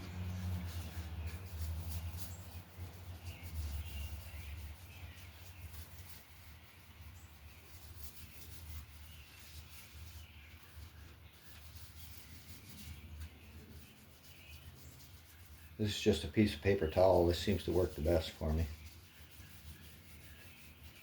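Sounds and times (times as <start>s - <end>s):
squeaky rubbing on wood: 0.0s - 21.0s.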